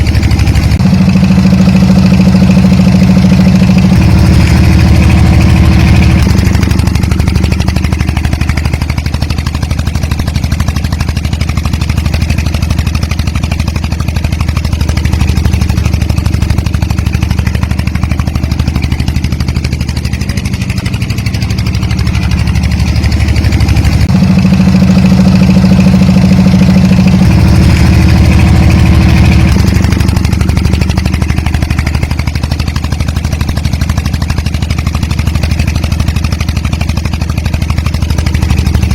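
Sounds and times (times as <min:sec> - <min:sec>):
small tractor motor running: 0:00.0 - 0:38.9.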